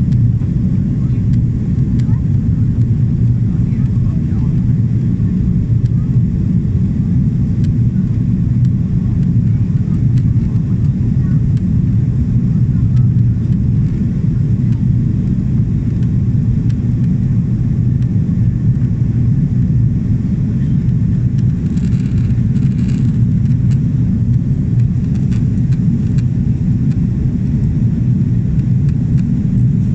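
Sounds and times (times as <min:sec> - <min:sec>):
jet engine cabin rumble: 0:00.0 - 0:29.9.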